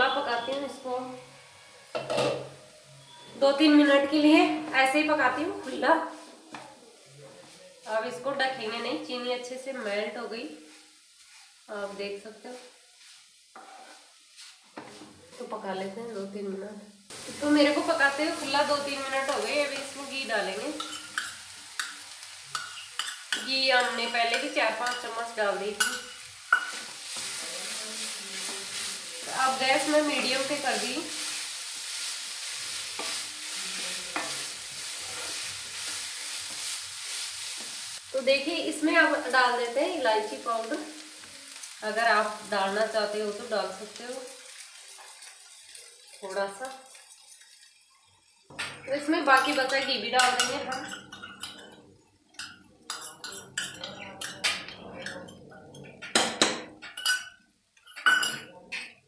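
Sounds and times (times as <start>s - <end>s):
mixture sizzling in a pan: 0.0s - 58.5s.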